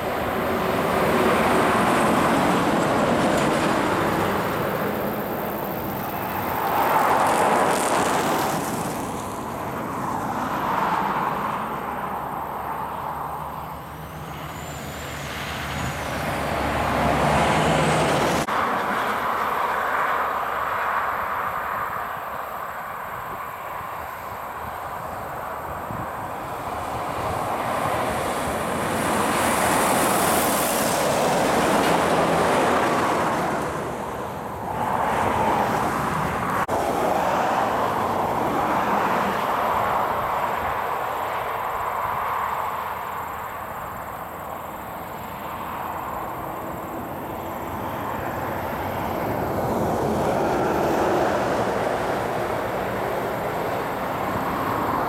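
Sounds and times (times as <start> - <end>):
trucks and cars passing: 0.0 - 55.0.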